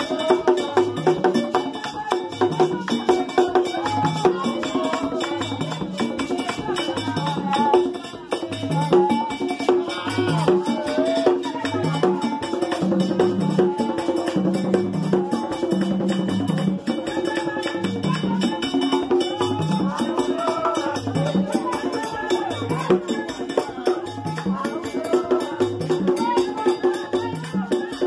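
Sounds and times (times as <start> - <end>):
group singing: 0.0 - 28.0
hand drums drumming: 0.0 - 28.0
person singing into a microphone: 0.0 - 28.0.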